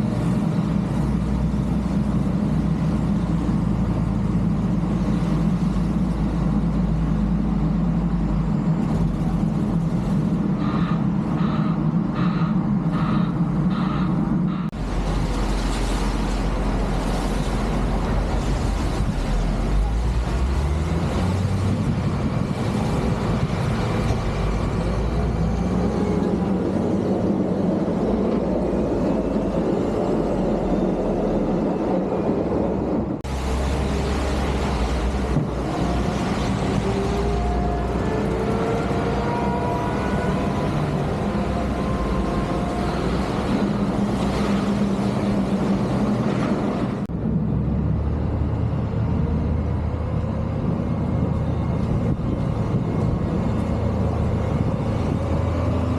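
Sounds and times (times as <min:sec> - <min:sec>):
heavy machinery engine rumble: 0:00.0 - 0:55.9.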